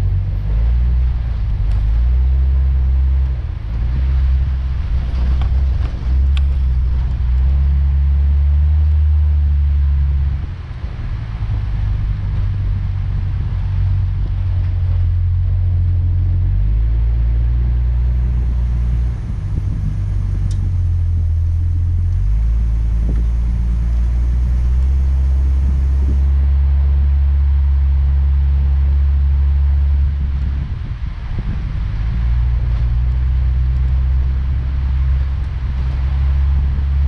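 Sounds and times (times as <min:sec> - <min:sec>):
vehicle rumbling in motion: 0:00.0 - 0:37.0.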